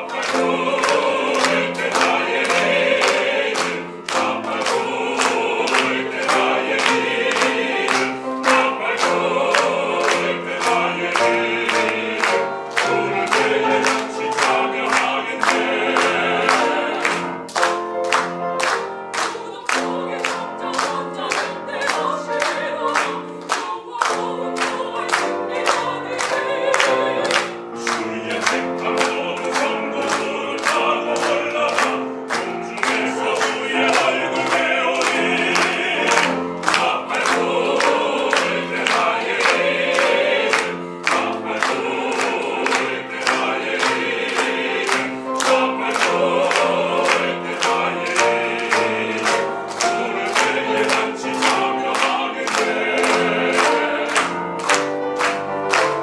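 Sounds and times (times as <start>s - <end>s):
mixed choir singing a hymn: 0.0s - 56.0s
repeated accompaniment chords: 0.0s - 56.0s.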